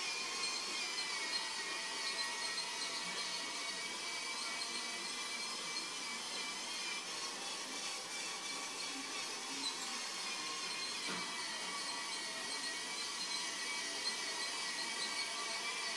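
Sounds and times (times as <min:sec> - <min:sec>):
toy train motor whirring: 0:00.0 - 0:15.9.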